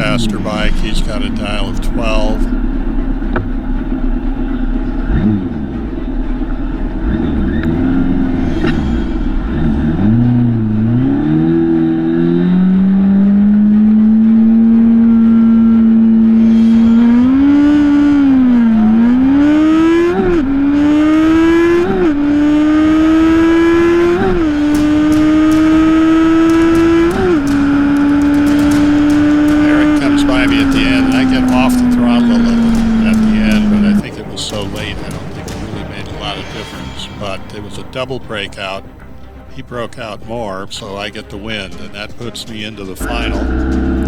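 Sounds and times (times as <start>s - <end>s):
motorcycle engine revving: 0.0s - 39.5s, 43.0s - 44.0s.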